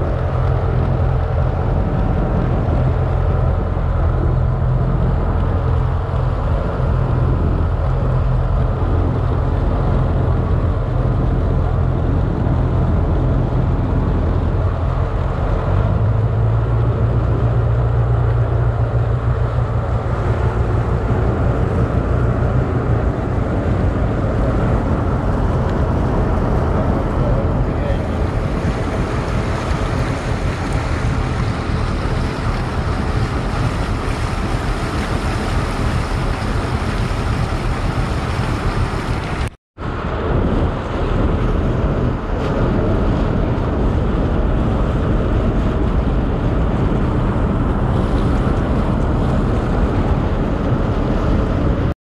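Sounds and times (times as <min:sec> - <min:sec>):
water rushing past boat: 0:00.0 - 0:52.0
wind buffeting microphone: 0:00.0 - 0:52.0.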